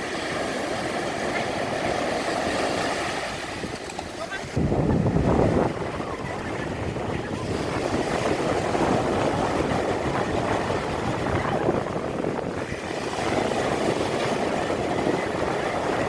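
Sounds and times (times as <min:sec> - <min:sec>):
sea surf rushing: 0:00.0 - 0:16.0
wind noise: 0:00.0 - 0:16.0.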